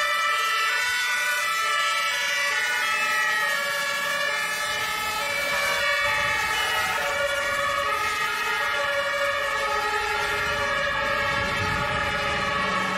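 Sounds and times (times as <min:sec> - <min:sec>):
two-tone emergency sirens: 0:00.0 - 0:12.9.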